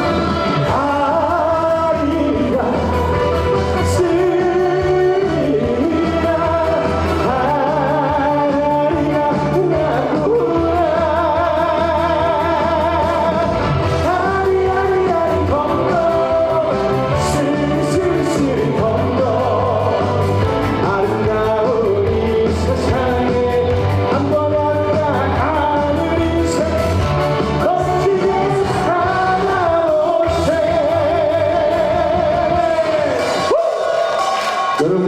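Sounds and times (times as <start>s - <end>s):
backing track with bass beat: 0.0s - 35.0s
person singing with vibrato: 0.0s - 35.0s.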